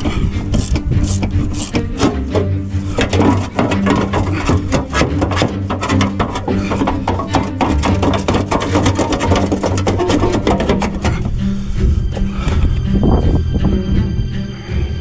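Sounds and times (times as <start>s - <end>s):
music with bass and clicking beats: 0.0s - 15.0s.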